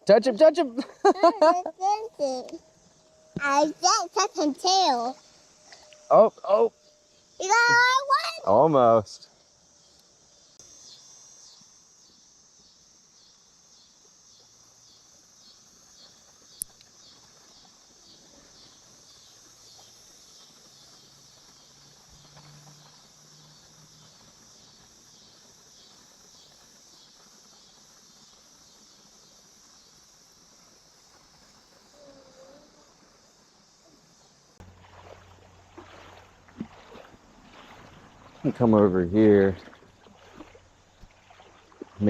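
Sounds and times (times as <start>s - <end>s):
insects buzzing: 0.0s - 42.0s.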